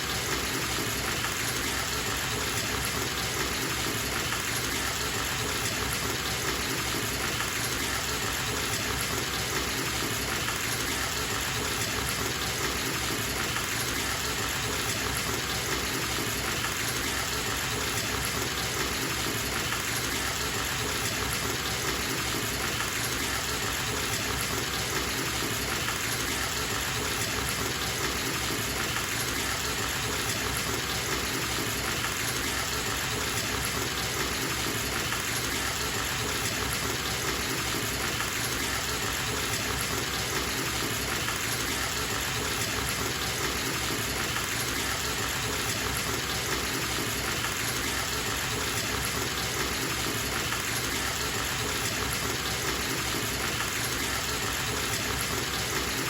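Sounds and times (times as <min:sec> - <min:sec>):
water gushing from bathtub faucet: 0:00.0 - 0:56.0.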